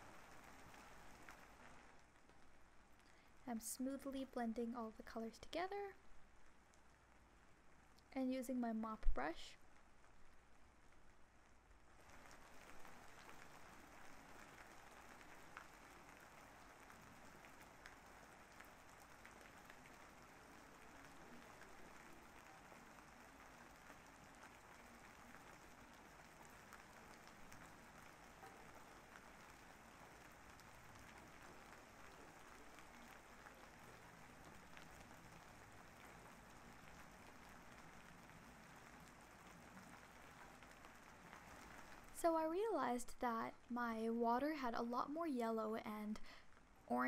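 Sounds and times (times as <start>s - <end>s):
faint steady rain: 0.0s - 47.0s.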